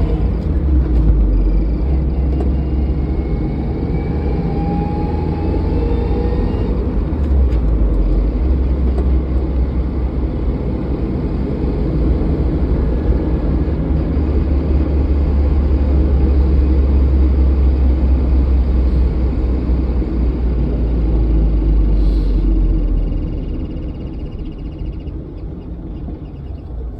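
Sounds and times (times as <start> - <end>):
vehicle engine and road rumble: 0.0 - 26.9.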